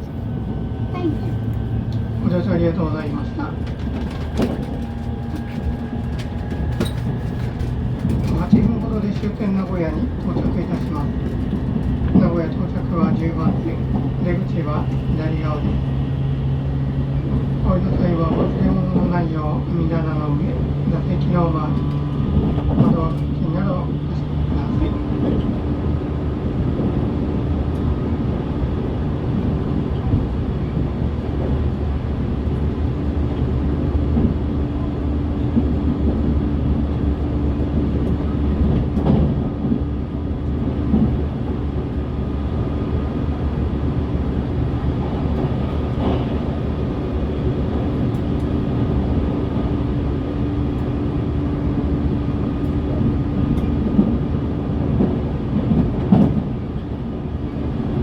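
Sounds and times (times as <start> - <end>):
train interior rumble: 0.0 - 58.0.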